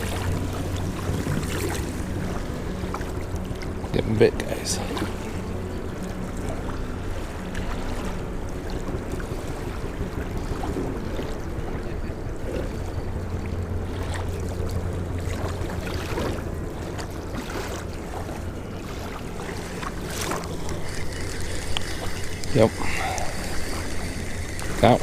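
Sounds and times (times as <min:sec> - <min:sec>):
constant low hum: 0:00.0 - 0:25.0
river water rushing: 0:00.0 - 0:25.0
wind on microphone: 0:00.0 - 0:25.0.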